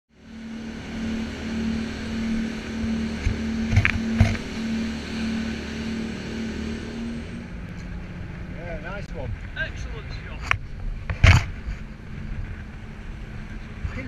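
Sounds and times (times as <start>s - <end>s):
diesel engines droning: 0.1s - 14.0s
water and wind hissing over hull: 0.1s - 14.0s.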